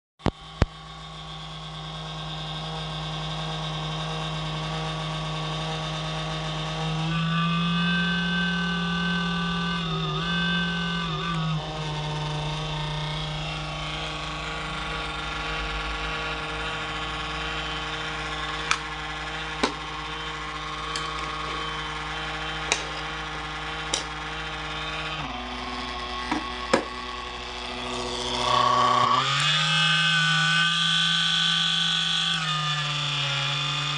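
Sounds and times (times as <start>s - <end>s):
cooling fans vibrating hum: 0.2s - 33.9s.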